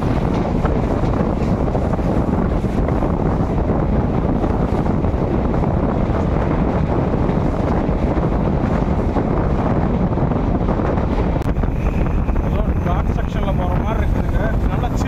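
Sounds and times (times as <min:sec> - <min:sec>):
train coach rumble: 0:00.0 - 0:15.0
wind buffeting the microphone: 0:00.0 - 0:15.0.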